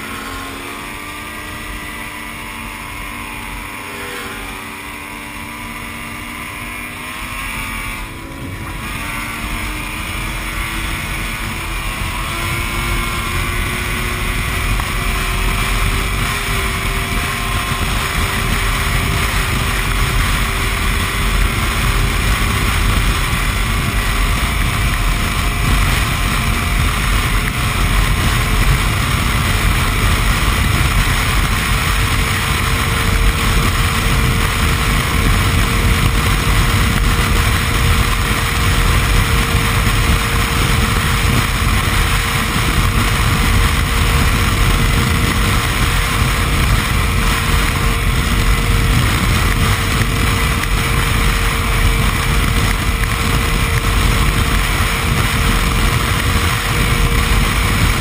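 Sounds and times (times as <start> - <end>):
snowmobile engine droning: 0.0 - 58.0
wind noise: 0.0 - 58.0.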